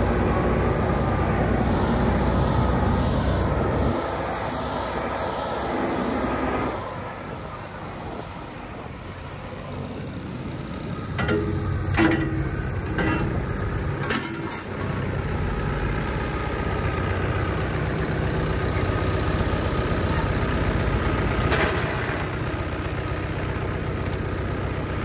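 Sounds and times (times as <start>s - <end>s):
backhoe diesel engine running: 0.0s - 25.0s
tractor engine idling: 0.0s - 25.0s.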